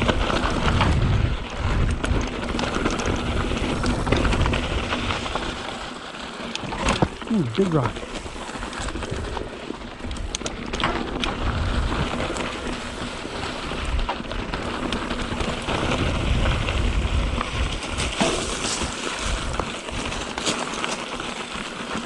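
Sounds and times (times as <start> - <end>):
wind rumble on microphone: 0.0 - 5.6, 8.2 - 20.4
bike clicks and rattles: 0.0 - 22.0
bike tyres crunching over rocks: 0.0 - 22.0.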